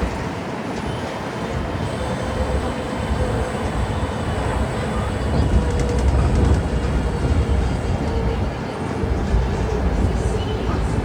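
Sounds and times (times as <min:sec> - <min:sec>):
tram rumbling along road: 0:00.0 - 0:11.0
wind noise: 0:00.0 - 0:11.0.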